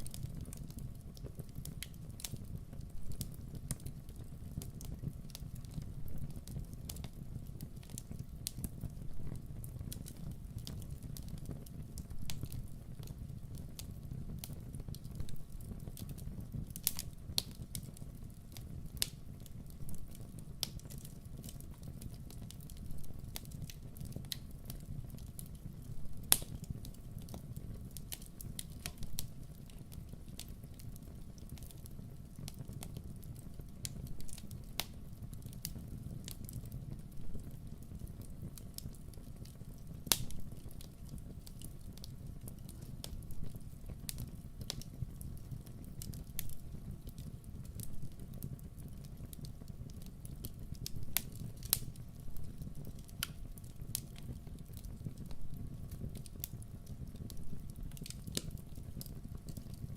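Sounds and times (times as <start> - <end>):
campfire flames rumbling: 0.0 - 59.9
wood crackling and popping: 0.0 - 59.9.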